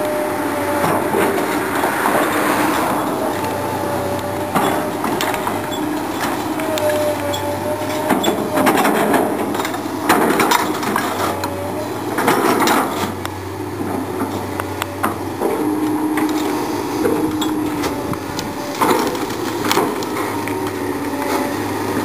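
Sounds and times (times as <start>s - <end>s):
excavator engine running: 0.0s - 22.0s.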